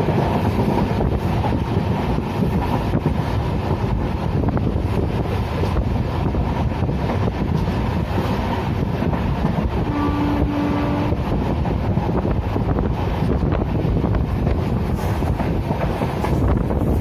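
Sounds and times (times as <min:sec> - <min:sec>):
train rumbling on rails: 0:00.0 - 0:17.0
wind buffeting microphone: 0:00.0 - 0:17.0.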